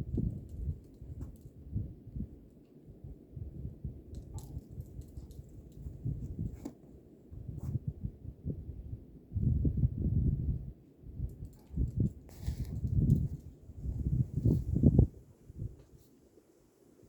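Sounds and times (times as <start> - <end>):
wind buffeting microphone: 0.0 - 6.6, 7.3 - 16.0.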